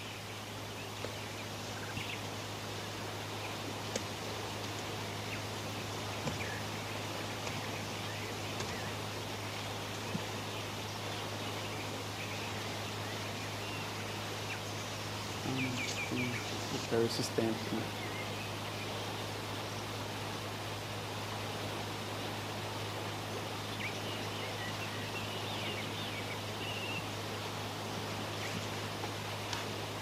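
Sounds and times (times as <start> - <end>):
low electrical hum: 0.0 - 30.0
steady hiss: 0.0 - 30.0.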